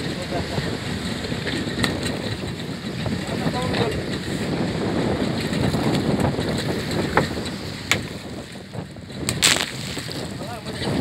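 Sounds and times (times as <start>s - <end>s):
choppy sea: 0.0s - 11.0s
wind buffeting microphone: 0.0s - 11.0s.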